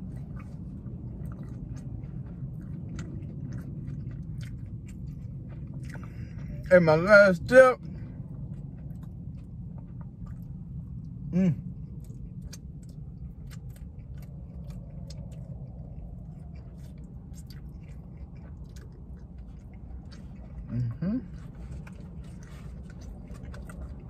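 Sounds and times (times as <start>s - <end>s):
low hum: 0.0s - 24.0s
person chewing: 0.0s - 24.0s.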